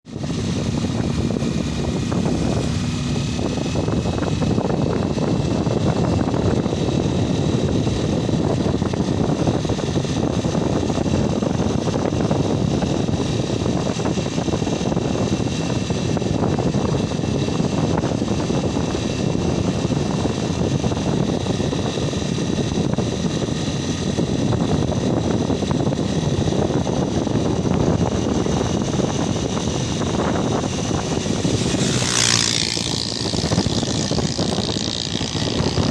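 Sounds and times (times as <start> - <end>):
vehicle running noise: 0.0 - 35.9.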